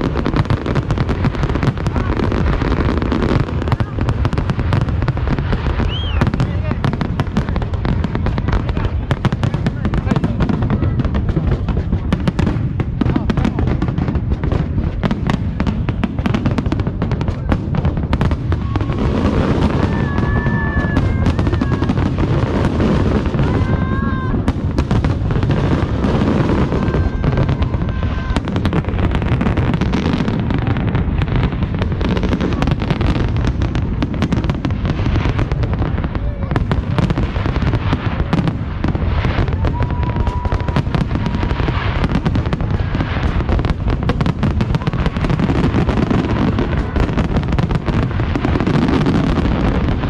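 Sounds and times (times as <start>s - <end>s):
fireworks cracking and banging: 0.0s - 50.0s.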